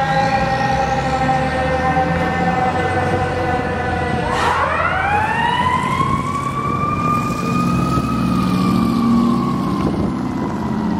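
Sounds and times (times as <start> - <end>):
fire engine siren: 0.0 - 10.9
truck engine rumble: 0.0 - 10.9.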